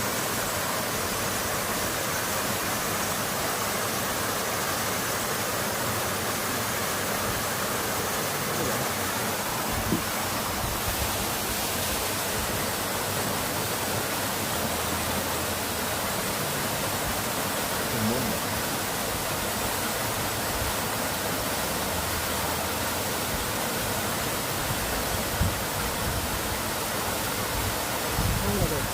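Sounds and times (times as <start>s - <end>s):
running water rushing: 0.0s - 28.9s.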